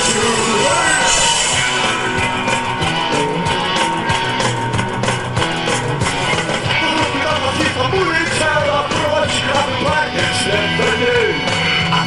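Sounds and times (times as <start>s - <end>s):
punk rock band playing: 0.0s - 12.0s.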